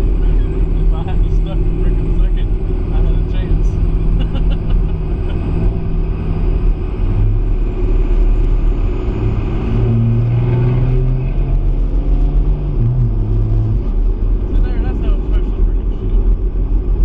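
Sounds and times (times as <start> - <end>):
truck engine rumbling from inside: 0.0 - 17.0.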